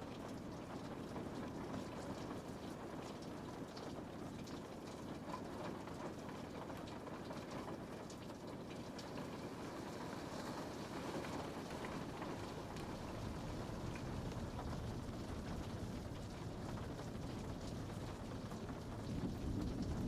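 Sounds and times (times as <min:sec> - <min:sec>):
rain on a window pane: 0:00.0 - 0:20.0
raindrops ticking on glass: 0:00.0 - 0:20.0.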